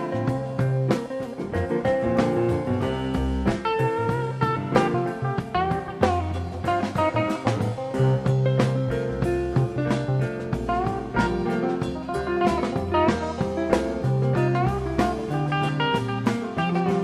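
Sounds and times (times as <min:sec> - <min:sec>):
guitar over drum beat: 0:00.0 - 0:17.0.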